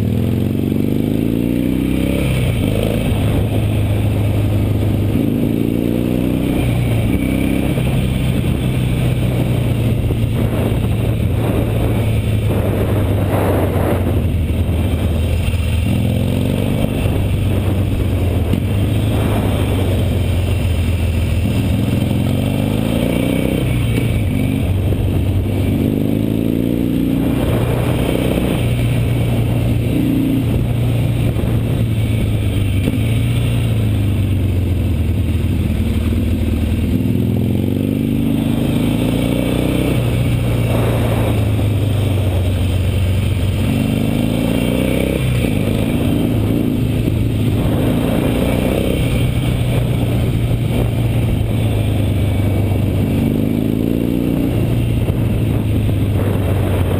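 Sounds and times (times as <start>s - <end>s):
motorcycle engine revving: 0.0s - 56.9s
wind and road noise: 0.0s - 56.9s.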